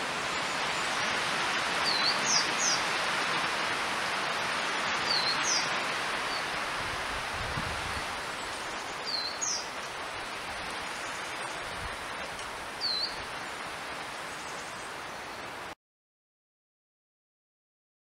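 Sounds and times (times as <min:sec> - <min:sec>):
background hiss: 0:00.0 - 0:15.8.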